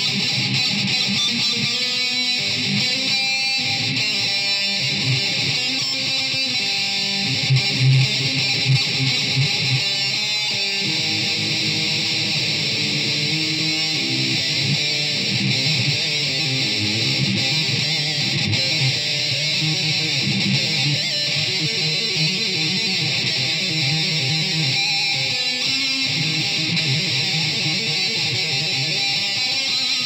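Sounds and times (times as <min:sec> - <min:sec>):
solo electric guitar: 0:00.0 - 0:30.0.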